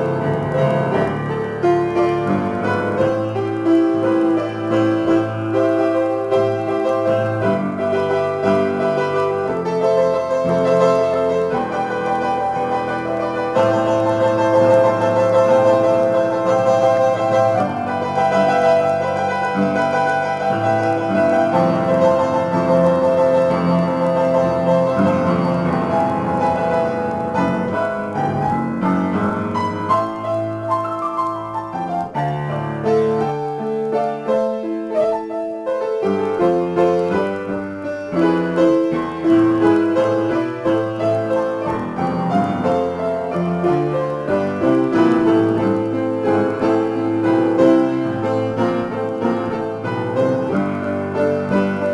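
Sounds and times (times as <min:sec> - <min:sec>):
solo piano improvisation: 0:00.0 - 0:51.9.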